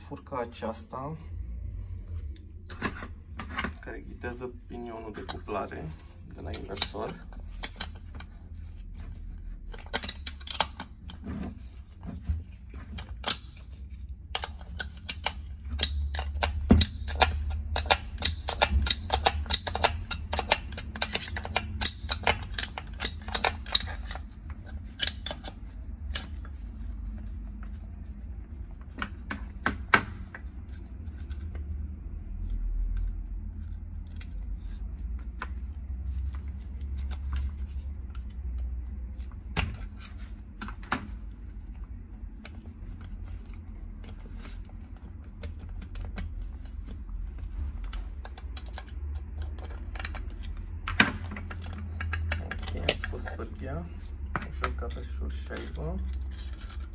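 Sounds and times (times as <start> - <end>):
metal parts and tools clinking: 2.7 - 31.6, 32.9 - 56.9.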